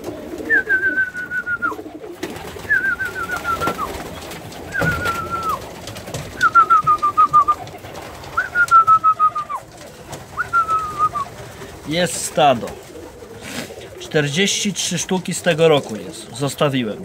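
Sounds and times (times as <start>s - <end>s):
wing flaps: 0.0s - 14.2s
pigeons cooing: 0.0s - 17.0s.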